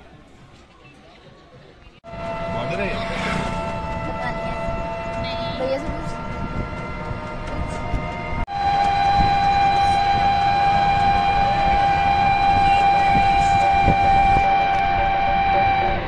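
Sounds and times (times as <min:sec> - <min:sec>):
auto-rickshaw engine rumble: 0:02.0 - 0:16.0
steady horn tone: 0:02.0 - 0:16.0.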